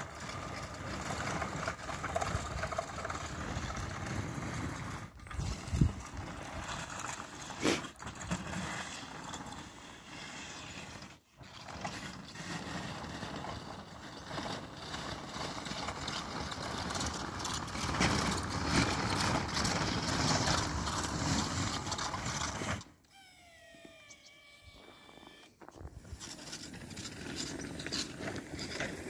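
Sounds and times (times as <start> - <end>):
tracks and blade in snow: 0.0 - 23.0, 23.8 - 29.0.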